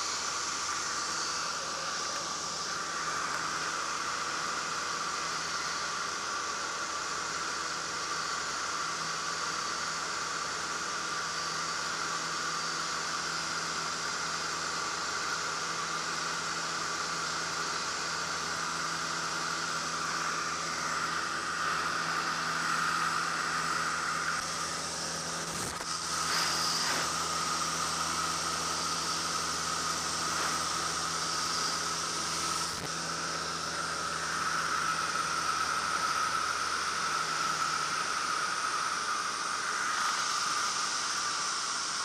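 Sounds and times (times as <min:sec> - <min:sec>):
engine and propeller drone: 0:00.0 - 0:42.0.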